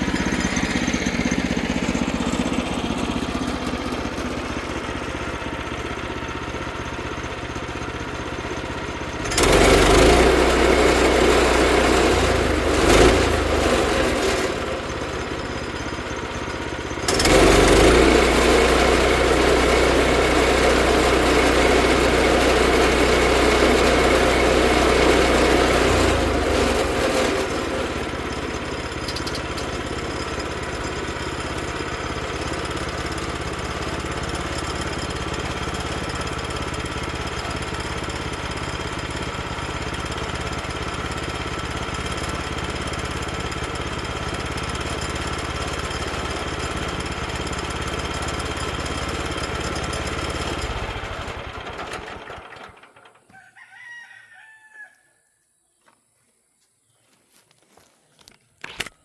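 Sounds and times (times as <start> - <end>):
small gasoline engine running: 0.0 - 53.3.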